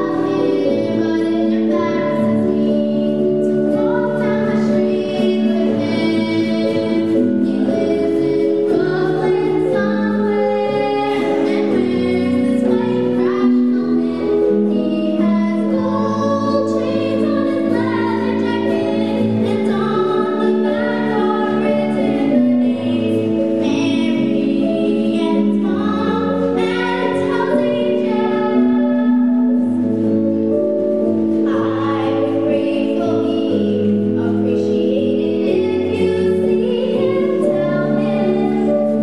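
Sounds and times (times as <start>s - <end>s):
live band with keyboard: 0.0s - 39.0s.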